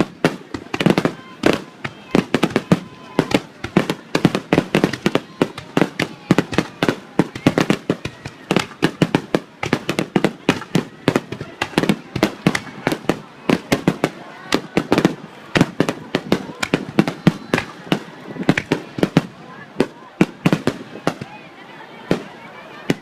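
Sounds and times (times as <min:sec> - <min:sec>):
fireworks bursting with sharp bangs: 0:00.0 - 0:23.0.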